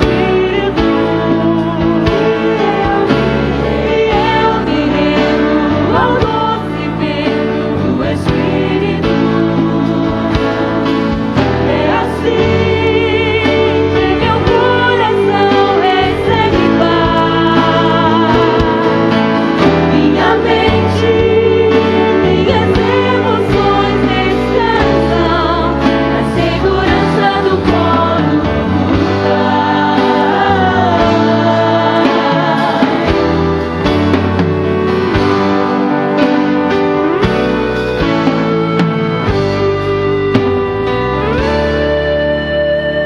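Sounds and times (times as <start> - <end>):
voices singing with vibrato: 0.0 - 42.2
band bass and keyboard chords: 0.0 - 43.0.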